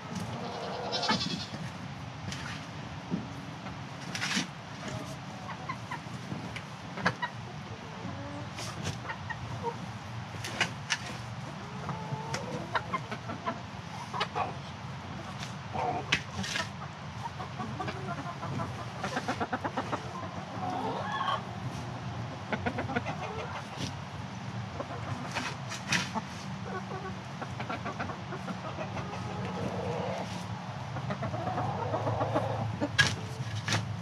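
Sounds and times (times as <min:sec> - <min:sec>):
hens clucking: 0:00.0 - 0:34.0.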